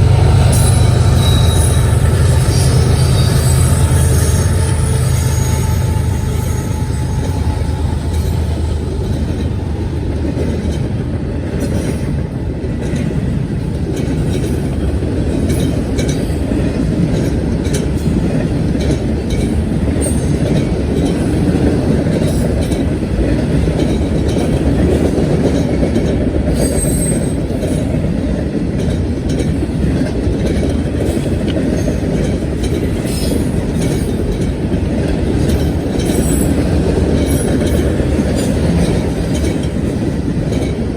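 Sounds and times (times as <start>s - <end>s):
freight cars rolling on rails: 0.0s - 40.9s
wheels clicking over rail joints: 0.0s - 40.9s.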